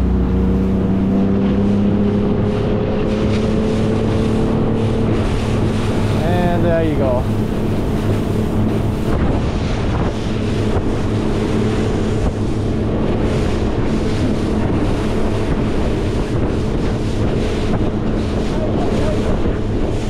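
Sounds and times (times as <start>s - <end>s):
outboard motor running: 0.0s - 20.0s
water rushing off hull: 0.0s - 20.0s
wind buffeting microphone: 0.0s - 20.0s.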